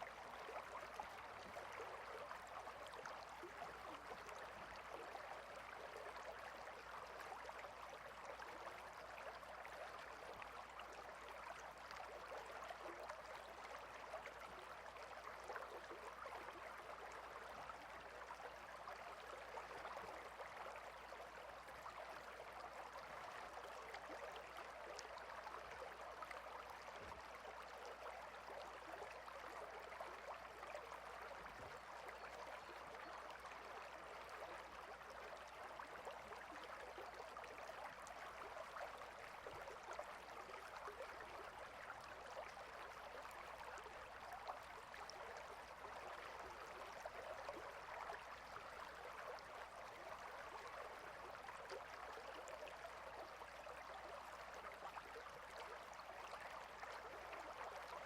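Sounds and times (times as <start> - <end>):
small stream flowing: 0.0 - 58.0.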